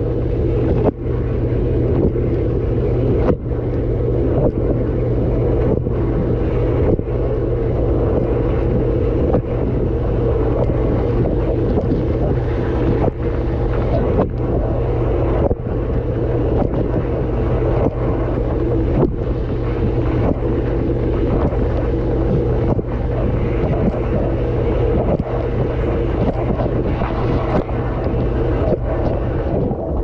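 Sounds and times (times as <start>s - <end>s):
dishwasher pump hum: 0.0s - 30.0s.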